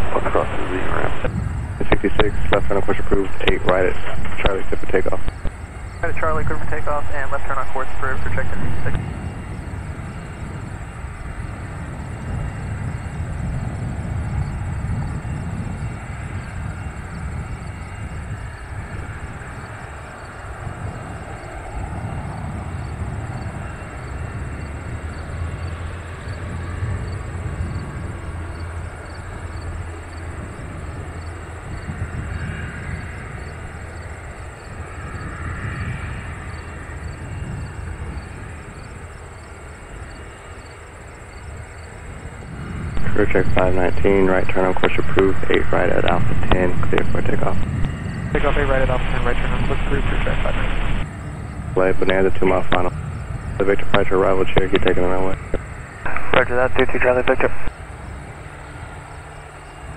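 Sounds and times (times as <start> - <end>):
twin piston aircraft engines drone: 0.0 - 59.9.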